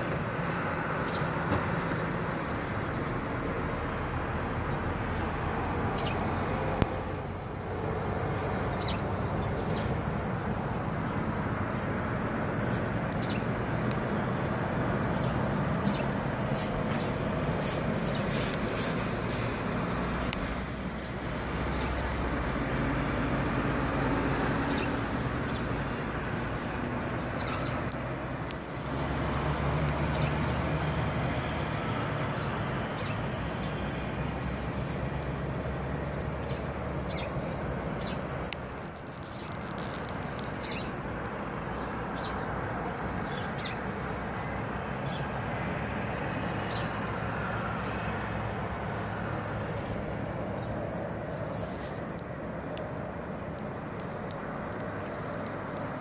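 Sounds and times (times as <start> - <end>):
passing vehicle engine hum: 0.0 - 56.0
road traffic noise: 0.0 - 56.0.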